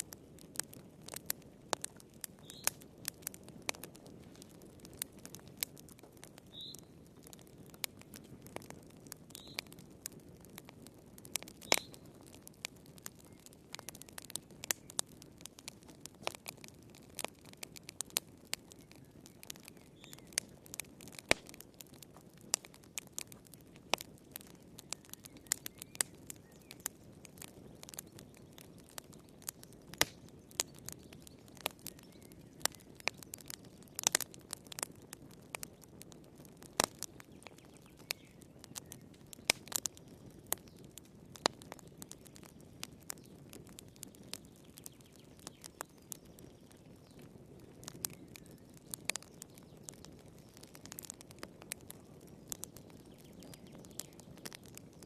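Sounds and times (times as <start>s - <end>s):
low rush of flames: 0.0s - 55.0s
wood fire popping and snapping: 0.0s - 55.0s.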